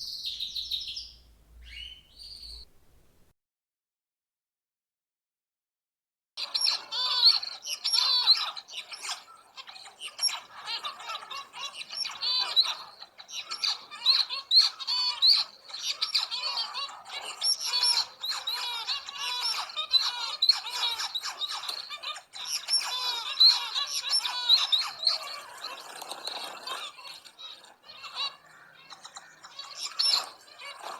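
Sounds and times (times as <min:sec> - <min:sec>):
birds calling: 0:00.0 - 0:02.9, 0:06.4 - 0:30.9.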